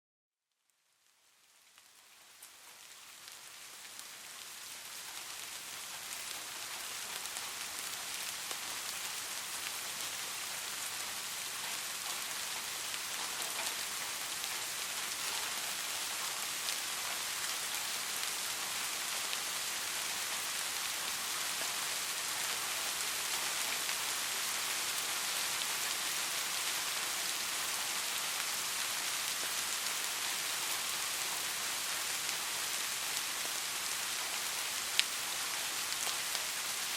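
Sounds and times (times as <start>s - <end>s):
rain falling on a surface: 0.5s - 36.9s.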